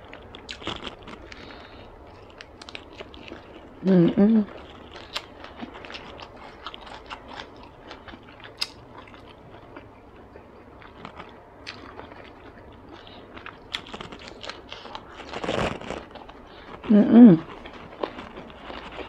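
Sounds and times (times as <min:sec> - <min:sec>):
chewing with wet clicks and crunches: 0:00.0 - 0:19.0.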